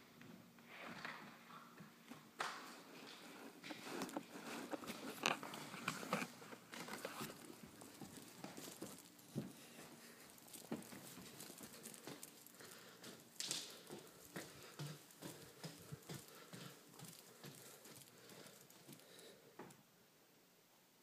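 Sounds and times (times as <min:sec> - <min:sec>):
handling taps and rustling: 0:02.4 - 0:19.8.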